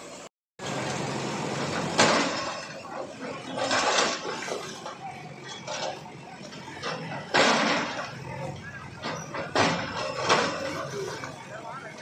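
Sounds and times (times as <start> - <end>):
backhoe engine running: 0.1 - 12.0.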